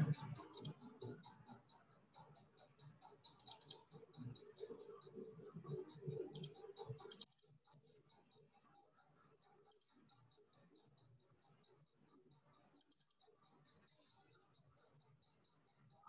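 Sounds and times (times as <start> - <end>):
soft irregular clicks: 0.0 - 16.0.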